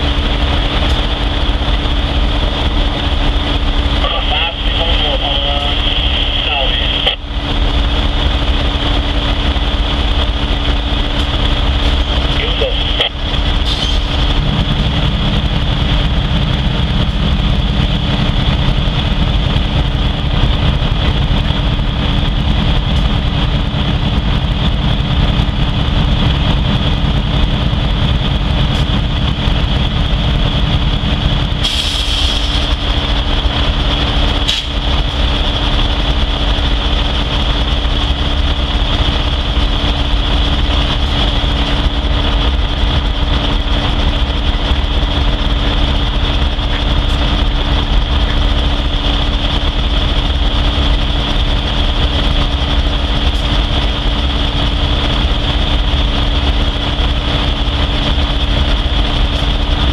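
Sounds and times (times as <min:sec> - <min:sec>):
heavy engine idling: 0:00.0 - 0:59.9
high whine: 0:00.0 - 0:59.9.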